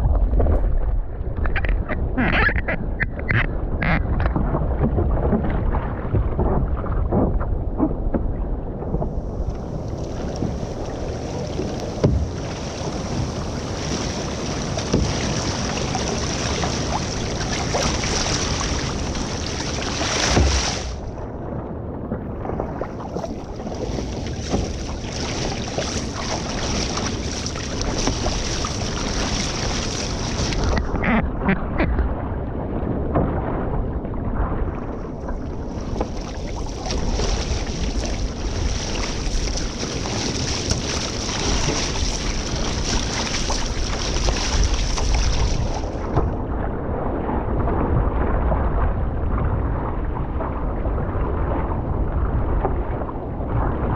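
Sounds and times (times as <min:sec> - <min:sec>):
water splashing along hull: 0:00.0 - 0:53.9
wind buffeting microphone: 0:00.0 - 0:53.9.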